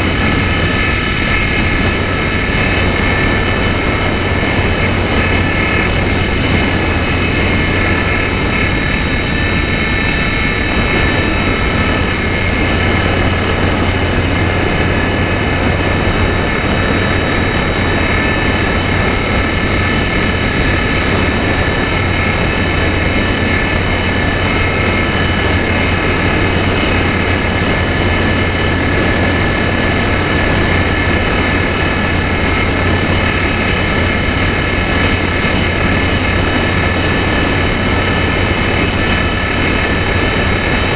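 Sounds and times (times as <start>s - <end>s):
electric motor and propeller whine: 0.0s - 40.9s
rushing air noise: 0.0s - 40.9s.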